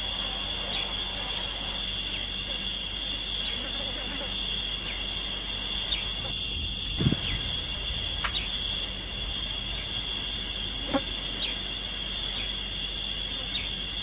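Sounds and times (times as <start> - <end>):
high-pitched insect drone: 0.0 - 14.0
rapid insect chirping pulses: 0.0 - 14.0.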